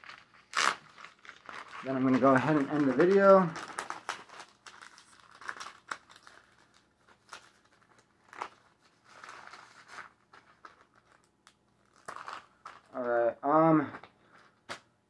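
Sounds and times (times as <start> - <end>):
plastic bag and paper crinkling: 0.0 - 13.2.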